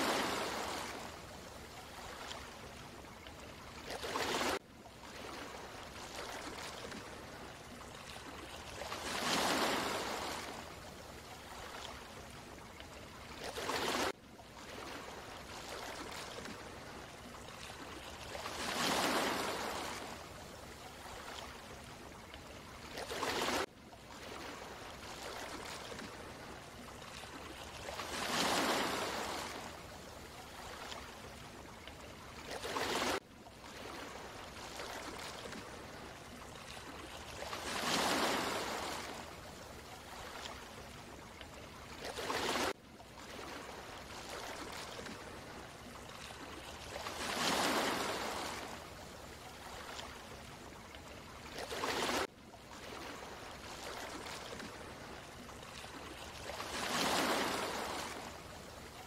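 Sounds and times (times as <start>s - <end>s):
sea waves lapping: 0.0s - 59.0s.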